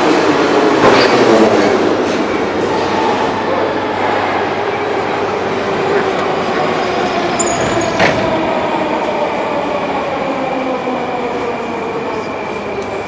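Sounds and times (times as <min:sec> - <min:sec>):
passengers moving about: 0:00.0 - 0:13.0
train hum: 0:00.0 - 0:13.0.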